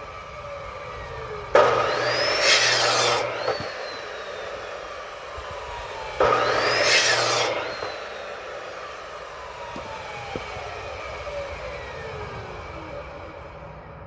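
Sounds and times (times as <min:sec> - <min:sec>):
electric saw cutting logs: 0:00.0 - 0:14.0.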